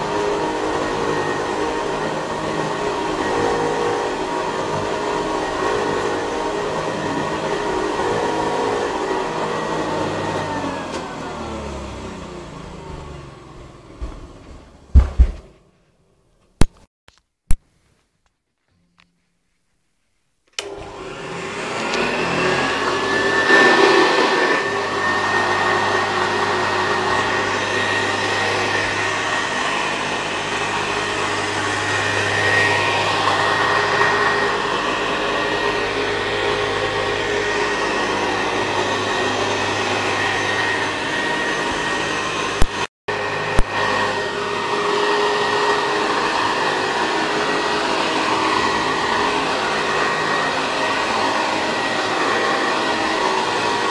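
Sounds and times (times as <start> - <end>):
vacuum cleaner motor whining: 0.0 - 15.6, 20.6 - 53.9.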